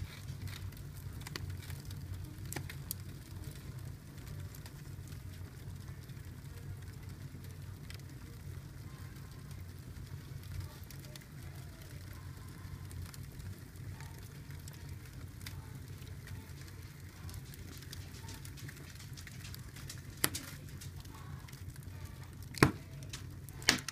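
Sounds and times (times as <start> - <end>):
fire popping: 0.0 - 23.9
fire rumbling and crackling: 0.0 - 23.9.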